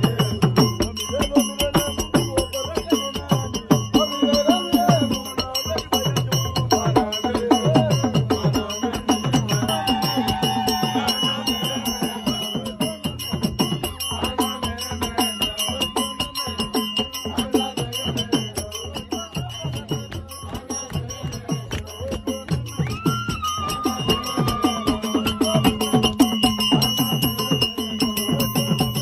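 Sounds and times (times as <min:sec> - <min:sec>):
drumming: 0:00.0 - 0:29.0
rattling percussion: 0:00.0 - 0:29.0.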